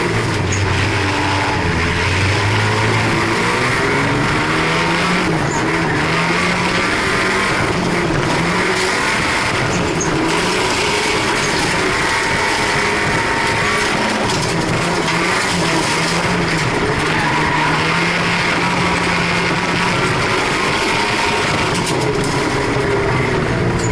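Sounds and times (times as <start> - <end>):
car engine revving: 0.0 - 23.9
loud rushing noise: 0.0 - 23.9.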